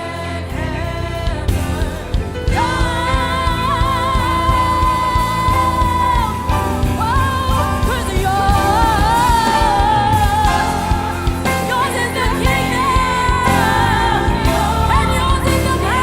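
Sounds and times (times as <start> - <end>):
gospel band playing: 0.0 - 16.0
person singing with vibrato: 0.0 - 16.0.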